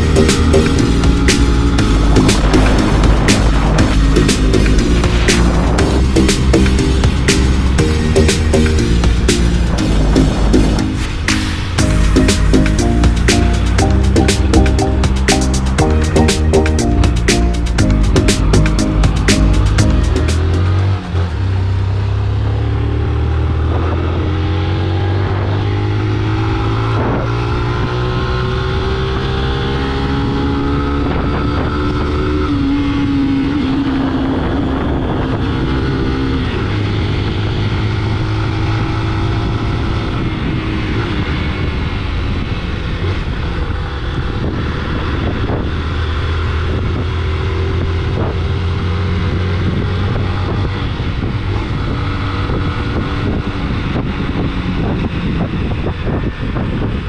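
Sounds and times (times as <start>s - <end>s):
road and wind noise: 0.0s - 57.0s
vehicle engine accelerating: 0.0s - 57.0s.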